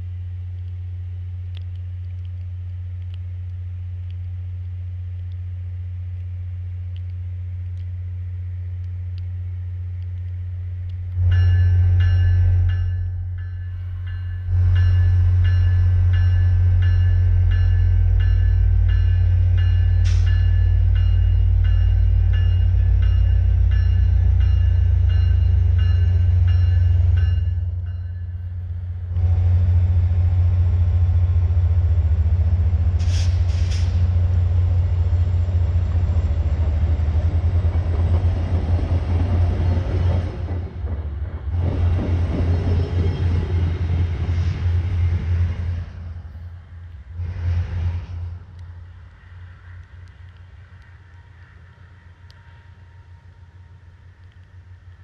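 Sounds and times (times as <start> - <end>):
train cars rumbling past: 10.6 - 55.0.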